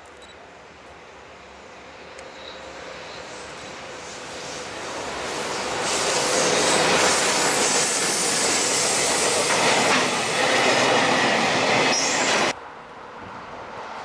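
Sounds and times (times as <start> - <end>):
freight train wheels rumbling on rails: 0.7 - 12.6.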